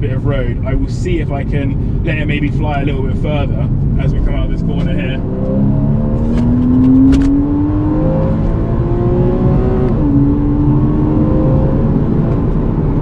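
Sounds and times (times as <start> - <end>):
road rumble: 0.0 - 13.0
car engine accelerating hard: 1.6 - 13.0.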